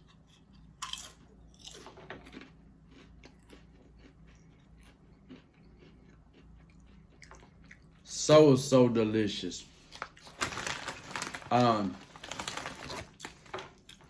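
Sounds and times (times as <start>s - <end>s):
person crunching chips: 0.0s - 8.2s, 9.9s - 14.0s.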